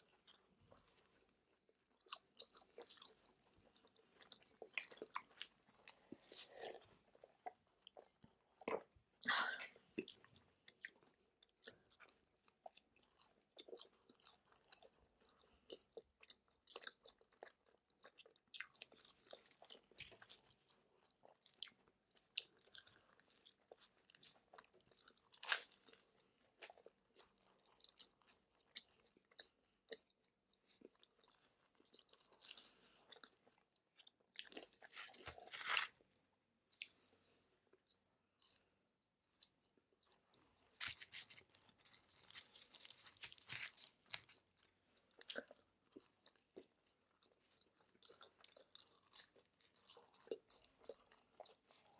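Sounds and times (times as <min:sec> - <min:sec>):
chewing and crunching pizza crust: 0:00.0 - 0:51.9.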